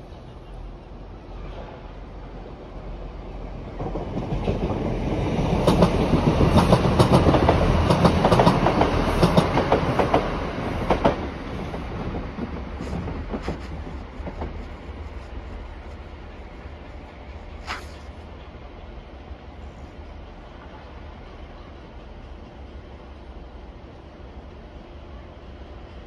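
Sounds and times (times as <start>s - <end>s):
train passing by: 0.0s - 26.0s.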